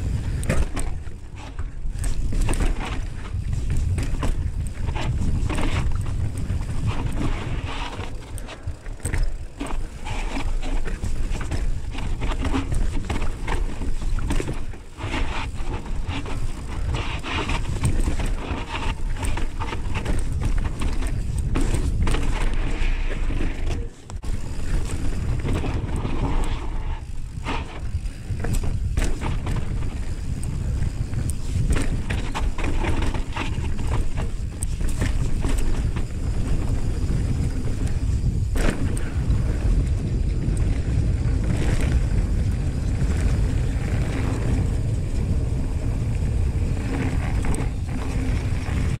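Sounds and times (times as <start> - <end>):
bike clicks and rattles: 0.0 - 49.0
tyres on dirt and rock: 0.0 - 49.0
wind rumble on microphone: 0.0 - 49.0.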